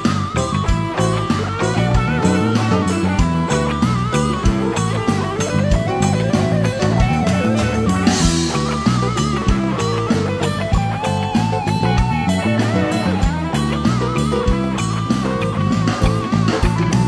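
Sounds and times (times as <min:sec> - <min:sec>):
bass: 0:00.0 - 0:17.0
electric guitar lead: 0:00.0 - 0:17.0
keyboards: 0:00.0 - 0:17.0.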